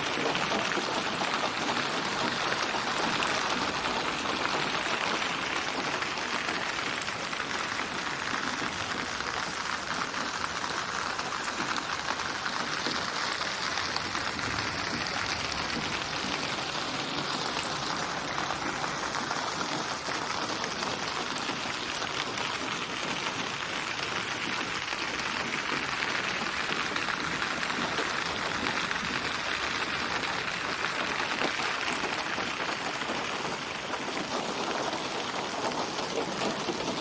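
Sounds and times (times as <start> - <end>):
steady rain pattering: 0.0 - 37.0.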